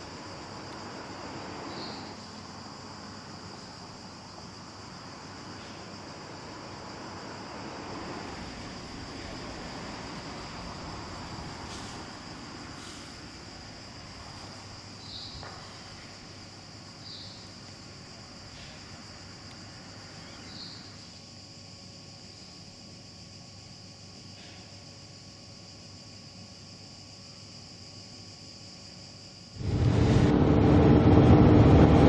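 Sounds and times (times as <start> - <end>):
insects chirring: 0.0 - 29.6.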